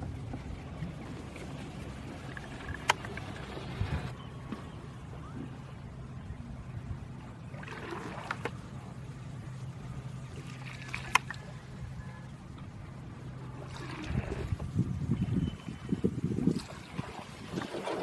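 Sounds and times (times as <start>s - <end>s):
steady low hum: 0.0s - 17.6s
water sloshing and trickling: 0.0s - 18.0s.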